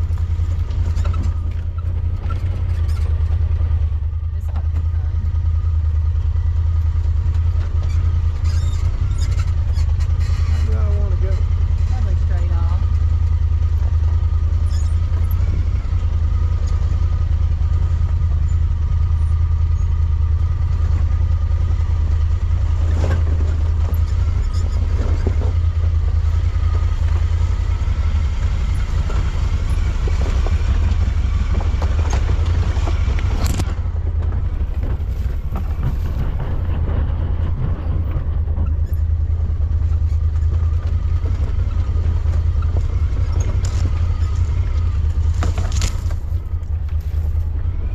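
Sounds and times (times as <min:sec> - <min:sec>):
vehicle engine drone: 0:00.0 - 0:47.9.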